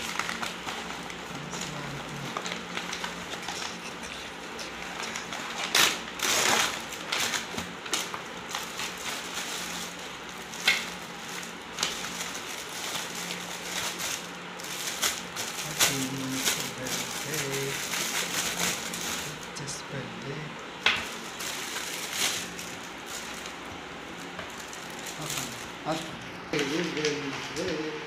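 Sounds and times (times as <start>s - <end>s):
plastic tearing: 0.0s - 19.5s, 20.8s - 27.7s
plastic bag crinkling: 0.0s - 20.2s, 20.8s - 28.0s
sharp plastic crackle: 0.0s - 27.9s.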